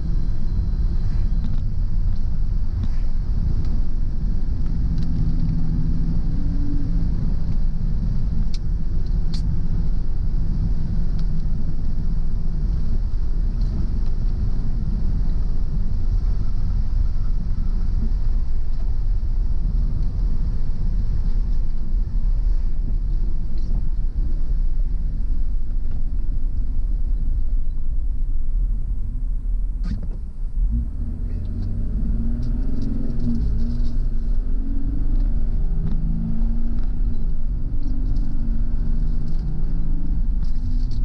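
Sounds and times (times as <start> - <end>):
faint engine hum: 0.0 - 41.0
road and engine rumble: 0.0 - 41.0.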